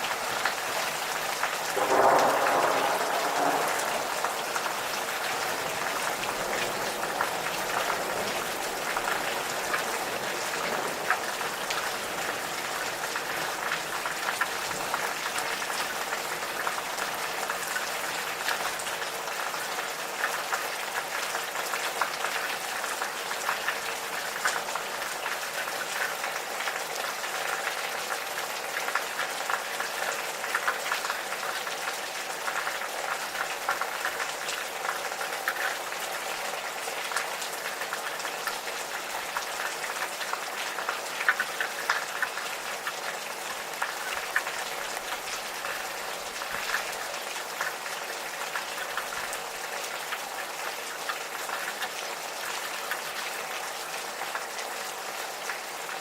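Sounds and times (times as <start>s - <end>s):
gentle rain pattering: 0.0s - 56.0s.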